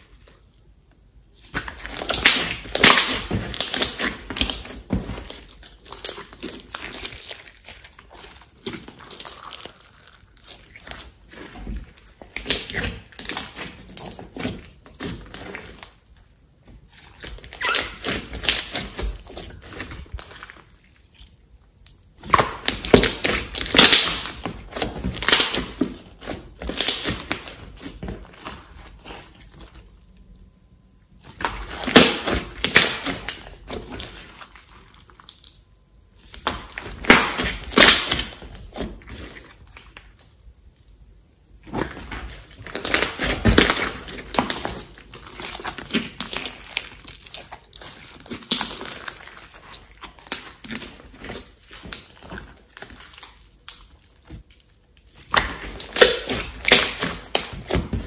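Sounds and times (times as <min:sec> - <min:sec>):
slime crackling and popping: 0:00.0 - 0:58.0.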